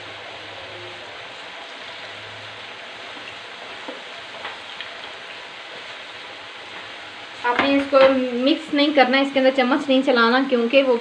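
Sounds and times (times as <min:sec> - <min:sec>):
fries sizzling in hot oil: 0:00.0 - 0:11.0.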